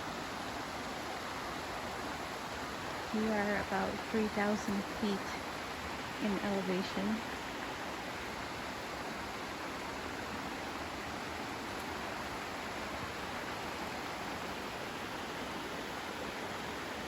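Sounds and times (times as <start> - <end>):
mountain stream rushing water: 0.0 - 17.0.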